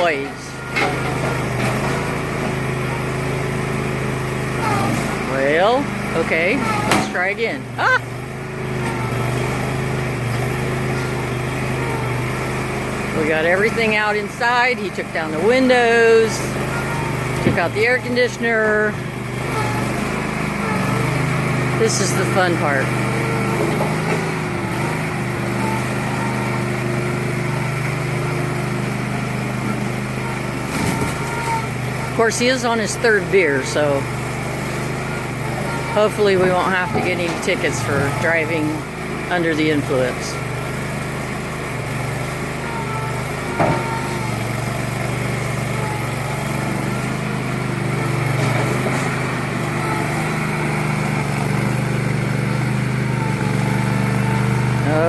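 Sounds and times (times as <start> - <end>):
backhoe loader engine running: 0.0 - 55.0.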